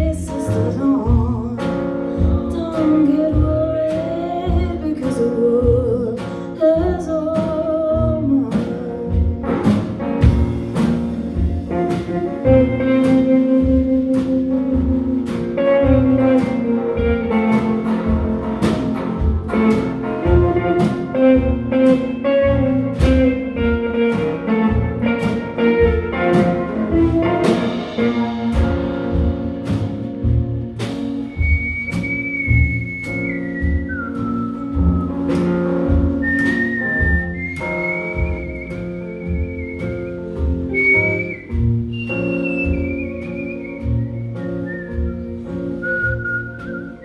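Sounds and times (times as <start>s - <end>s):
guitar: 0.0s - 47.0s
live jazz-blues band playing: 0.0s - 47.0s.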